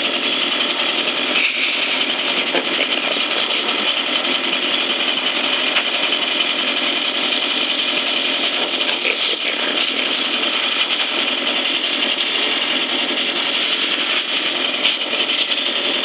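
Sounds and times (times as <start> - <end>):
leaf blower engine buzzing: 0.0 - 16.0.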